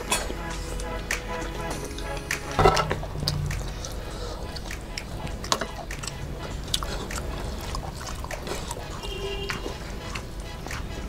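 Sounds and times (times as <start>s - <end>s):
eating sounds: 0.0s - 11.0s.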